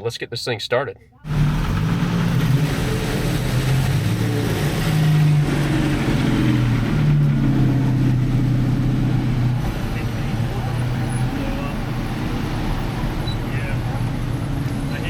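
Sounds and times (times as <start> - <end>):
vehicle engine revving: 1.2 - 15.0.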